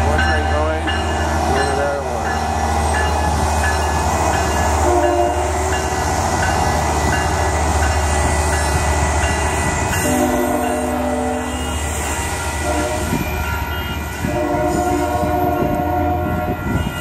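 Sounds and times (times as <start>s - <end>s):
diesel train rumble: 0.0s - 17.0s
level-crossing warning bell: 0.0s - 17.0s.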